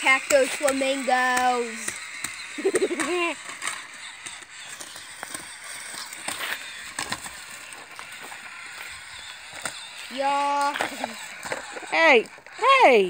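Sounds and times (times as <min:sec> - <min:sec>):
scattered clicks: 0:00.0 - 0:13.0
small electric motor running: 0:00.0 - 0:13.0
wheels crunching through leaves: 0:00.0 - 0:13.0.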